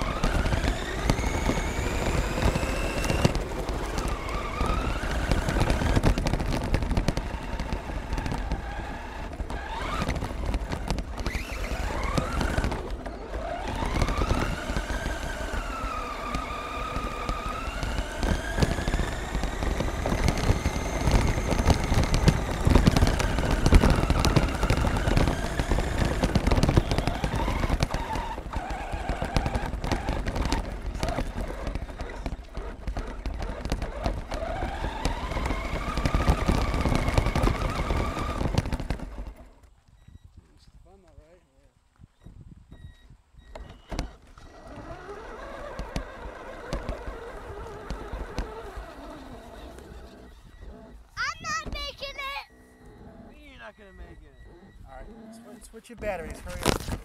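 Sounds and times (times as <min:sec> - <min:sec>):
tyres rattling on rough ground: 0:00.0 - 0:41.1, 0:41.8 - 0:57.0
rc truck motor and gears whining: 0:00.0 - 0:41.4, 0:42.1 - 0:57.0.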